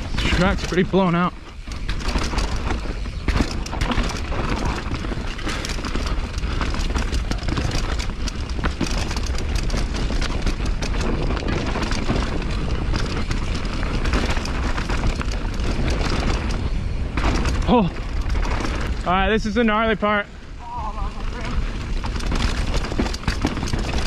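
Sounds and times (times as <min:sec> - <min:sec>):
bike clattering: 0:00.0 - 0:24.0
bike tyres crunching over rocks: 0:00.0 - 0:24.0
wind rumble on microphone: 0:00.0 - 0:24.0.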